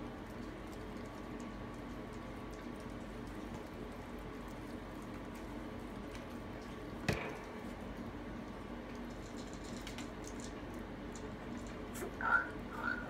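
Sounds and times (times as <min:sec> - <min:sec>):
puppy chewing dry kibble: 0:00.0 - 0:12.2
low steady hum: 0:00.0 - 0:13.0.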